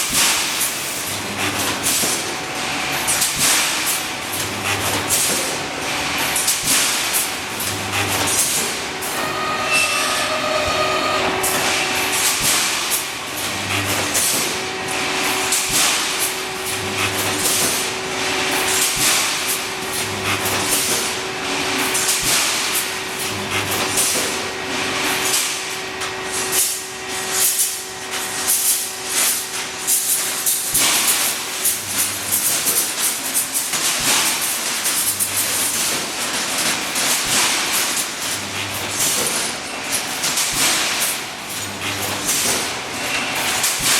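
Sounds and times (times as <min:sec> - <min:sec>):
welding transformer hum: 0:00.0 - 0:36.3, 0:39.9 - 0:43.9.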